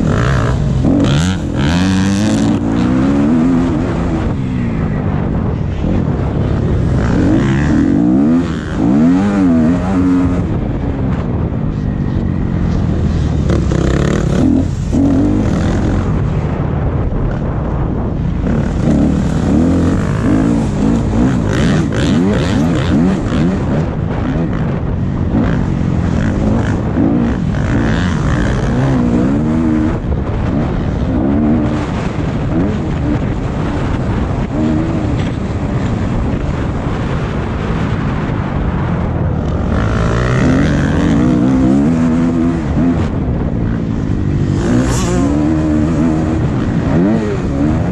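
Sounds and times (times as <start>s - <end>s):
motocross bike engine revving: 0.0s - 16.4s, 18.3s - 47.9s
rush of noise: 0.0s - 47.9s.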